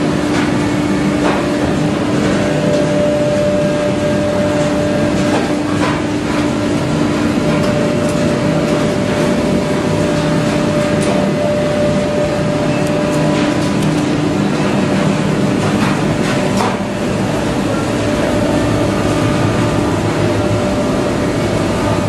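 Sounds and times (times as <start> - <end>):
machine droning: 0.0 - 22.0.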